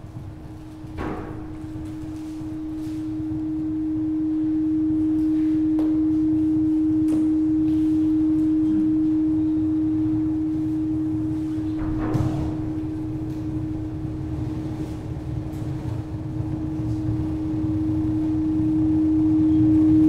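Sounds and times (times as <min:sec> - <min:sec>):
faint low rumble: 0:00.0 - 0:20.0
steady low tone: 0:00.0 - 0:20.0.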